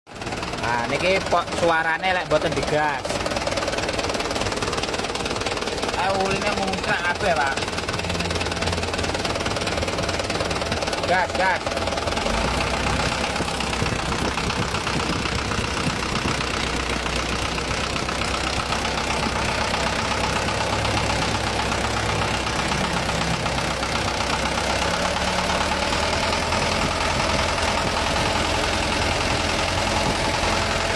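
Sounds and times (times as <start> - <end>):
diesel engine idling with knock: 0.1 - 30.9.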